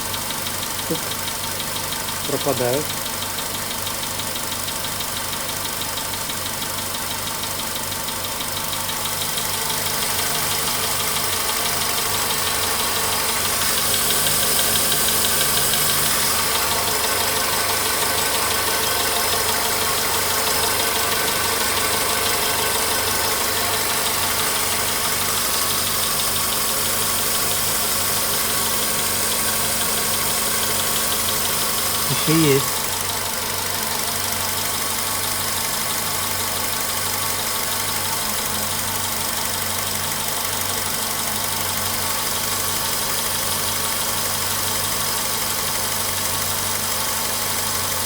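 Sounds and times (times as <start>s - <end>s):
car engine idling with light knock: 0.0s - 32.1s, 32.7s - 48.0s.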